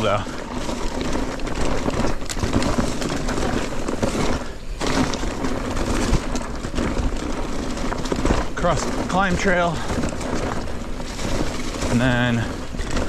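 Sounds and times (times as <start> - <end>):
bike rattling with sharp knocks: 0.0 - 13.0
bike tyres rolling over dirt: 0.0 - 13.0.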